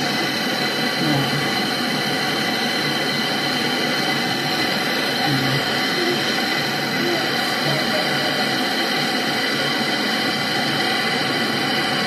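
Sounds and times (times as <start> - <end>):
gas torch hissing roar: 0.0 - 12.0.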